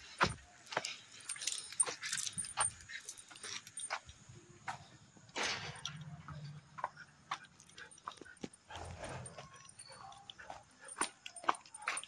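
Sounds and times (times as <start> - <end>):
metal chain leash jingling: 0.0 - 4.8, 5.4 - 12.0.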